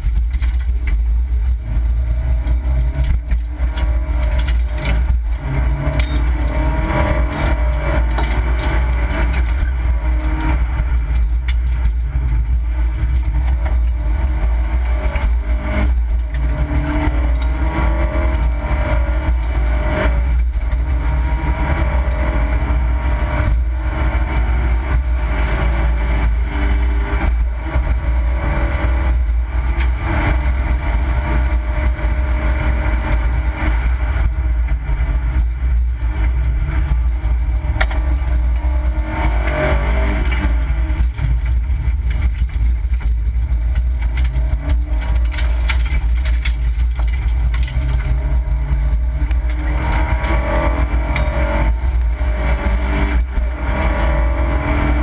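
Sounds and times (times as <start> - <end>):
knocks and rattles: 0.0 - 22.1, 23.1 - 55.0
low road rumble: 0.0 - 55.0
car engine revving hard: 1.3 - 55.0.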